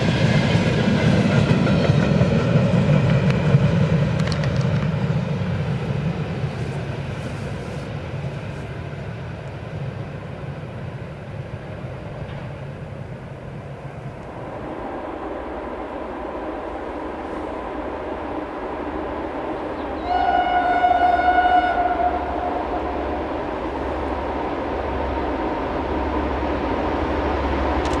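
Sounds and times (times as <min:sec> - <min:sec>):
freight train rolling on rails: 0:00.0 - 0:28.0.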